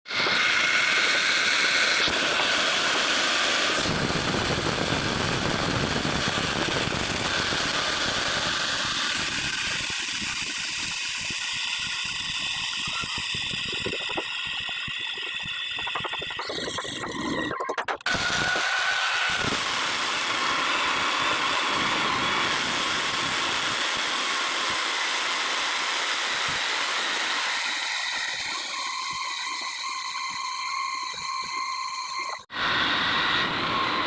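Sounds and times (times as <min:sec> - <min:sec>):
core drill motor whine: 0:00.1 - 0:34.0
drill bit grinding: 0:00.1 - 0:34.0.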